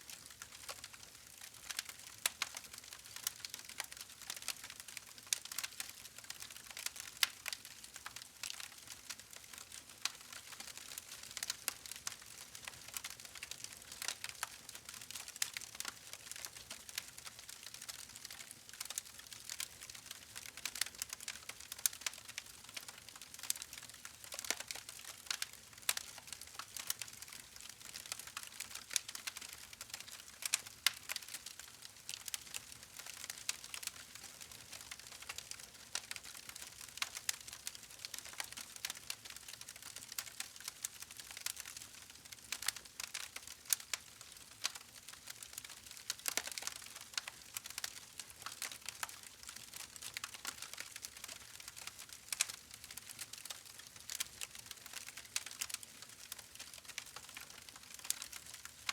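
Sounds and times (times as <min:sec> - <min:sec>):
wood fire crackling: 0:00.1 - 0:58.9.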